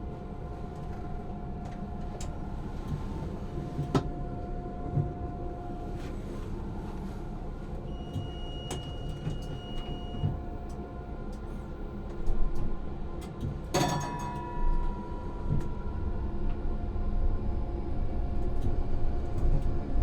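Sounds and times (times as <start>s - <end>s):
tram rumble and hum: 0.0s - 20.0s.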